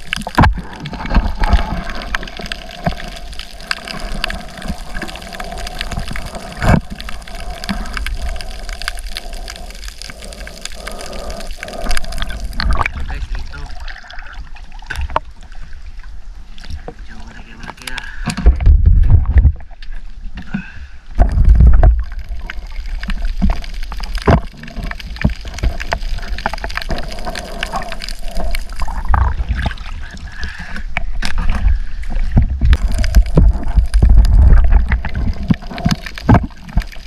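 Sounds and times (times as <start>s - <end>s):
sea water sloshing and gurgling: 0.0s - 37.0s.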